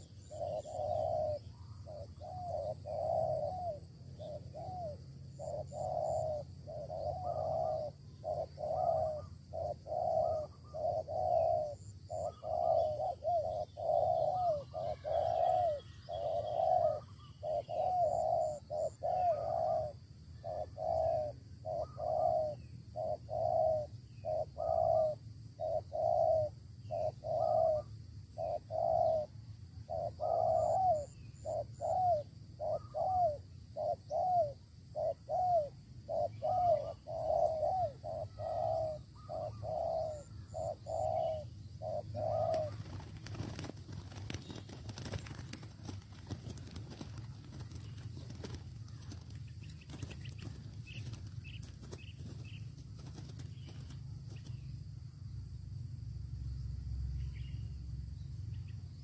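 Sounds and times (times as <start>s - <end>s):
doves cooing: 0.0s - 54.6s.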